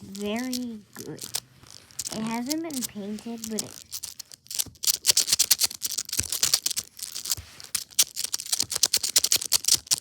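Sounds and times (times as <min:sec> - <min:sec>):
plastic toy segments clicking: 0:00.0 - 0:10.0.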